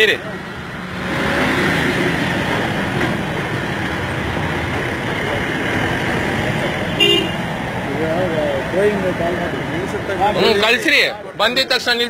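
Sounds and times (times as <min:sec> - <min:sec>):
heavy vehicles passing close: 0:00.0 - 0:12.0
road traffic: 0:00.0 - 0:12.0.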